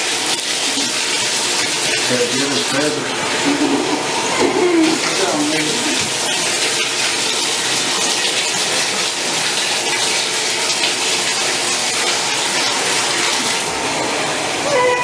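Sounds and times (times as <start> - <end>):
water running into bathtub: 0.0 - 15.0.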